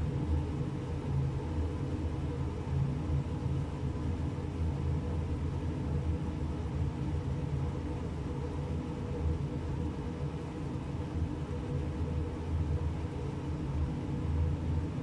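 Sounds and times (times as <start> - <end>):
low mechanical hum and rumble: 0.0 - 15.0.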